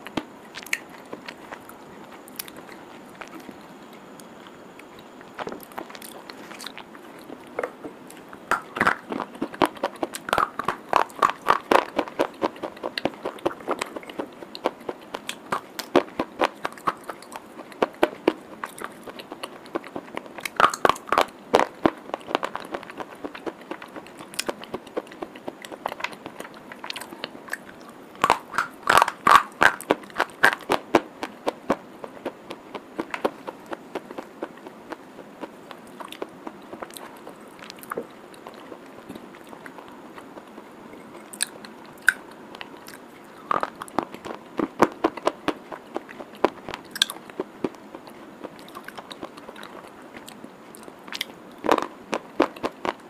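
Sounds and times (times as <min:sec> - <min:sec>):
chalk crunching while chewed: 0:00.0 - 0:53.0.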